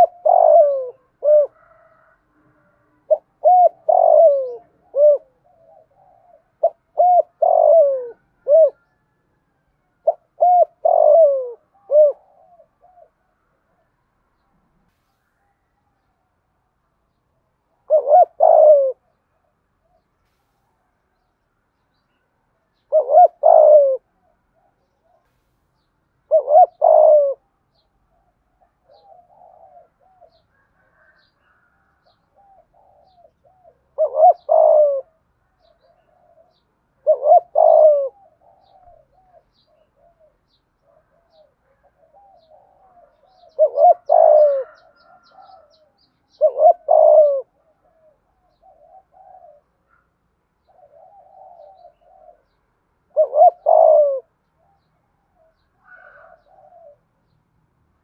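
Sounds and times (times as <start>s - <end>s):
dove cooing: 0.0s - 13.9s, 17.7s - 20.1s, 22.8s - 25.4s, 26.2s - 57.3s.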